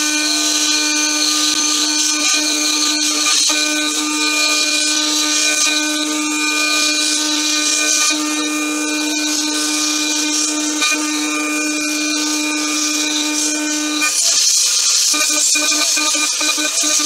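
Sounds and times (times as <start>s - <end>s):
metal cutting hiss: 0.0s - 17.0s
mill spindle whining: 0.0s - 17.0s.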